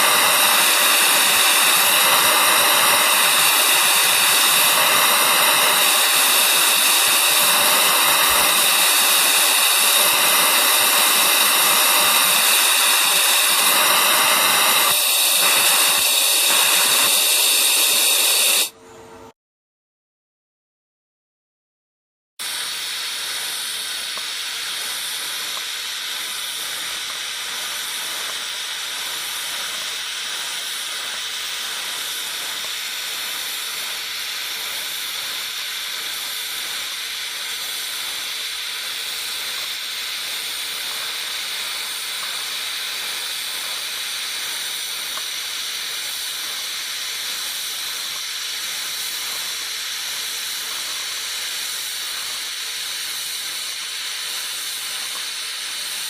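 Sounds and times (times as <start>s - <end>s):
welding arc hissing: 0.0s - 18.8s, 22.4s - 56.0s.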